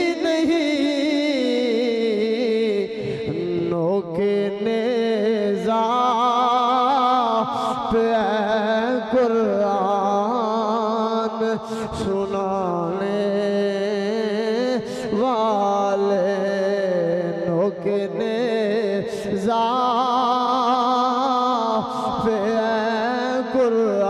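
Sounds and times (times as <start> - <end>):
person singing devotional poem: 0.0 - 24.0.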